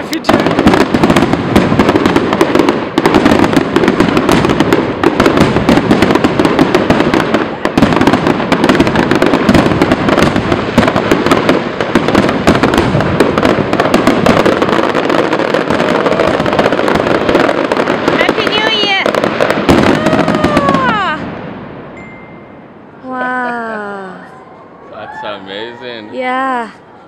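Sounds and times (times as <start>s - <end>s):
fireworks bangs and crackling: 0.0s - 23.7s.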